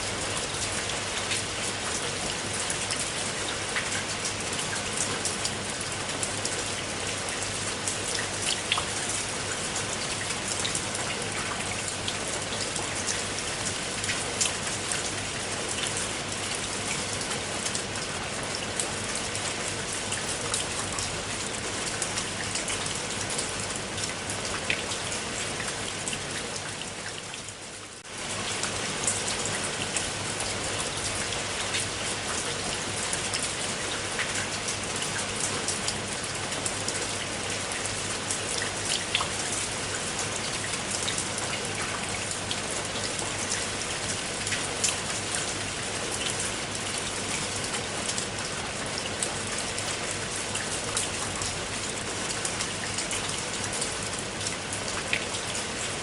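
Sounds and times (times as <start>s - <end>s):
steady rain with drops ticking: 0.0s - 56.0s.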